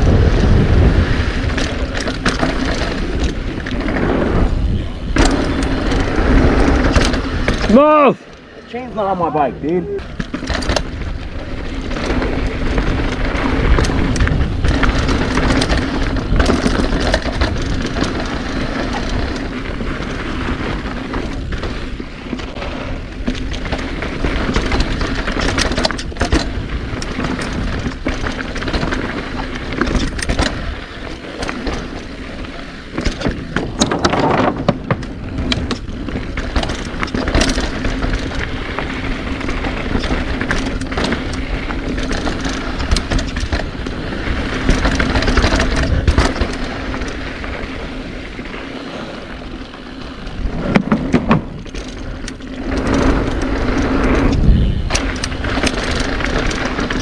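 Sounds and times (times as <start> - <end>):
bike rattling over rough ground: 0.0 - 57.0
bike rushing noise with hum: 0.0 - 57.0.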